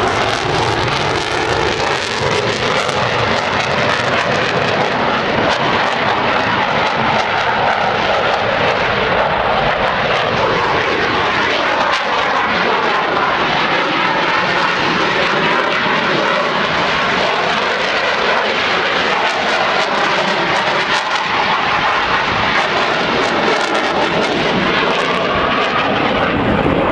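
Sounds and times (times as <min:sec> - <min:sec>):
jet engines roaring flyby: 0:00.0 - 0:26.9.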